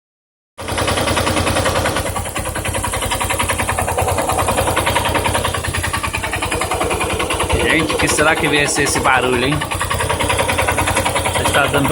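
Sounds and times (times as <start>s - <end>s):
motorcycle engine idling with rattle: 0.6s - 11.9s.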